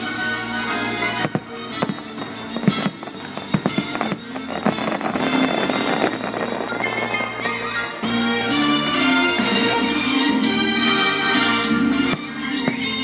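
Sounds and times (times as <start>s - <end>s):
fireworks bangs and crackles: 0.0s - 13.0s
orchestral music: 0.0s - 13.0s.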